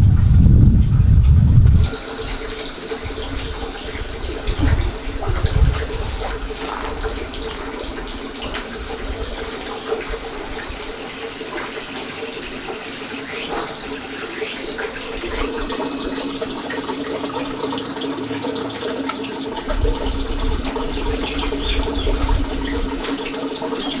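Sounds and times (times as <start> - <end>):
water running: 1.6 - 24.0.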